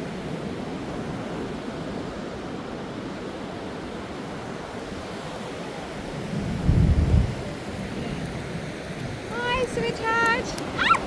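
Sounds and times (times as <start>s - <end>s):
heavy rain: 0.0s - 11.0s
ocean surf breaking: 0.0s - 11.0s.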